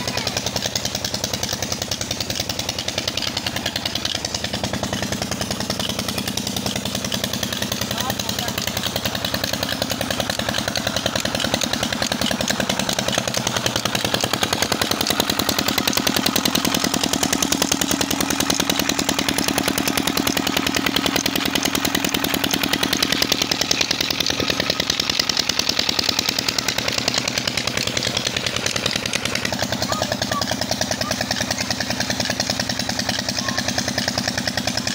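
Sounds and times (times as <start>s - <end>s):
well engine running: 0.0s - 34.9s.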